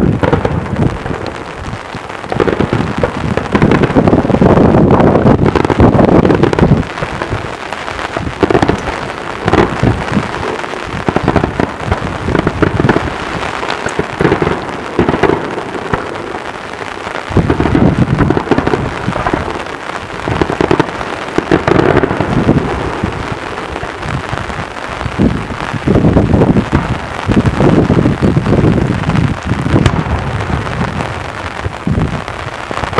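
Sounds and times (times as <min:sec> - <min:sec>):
fireworks bangs and cracks: 0:00.0 - 0:32.9.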